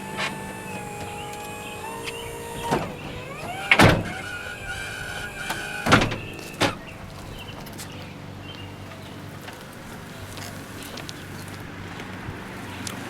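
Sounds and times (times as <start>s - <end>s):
doors clunking shut: 0.0s - 13.0s
electric motors whining: 0.0s - 13.0s.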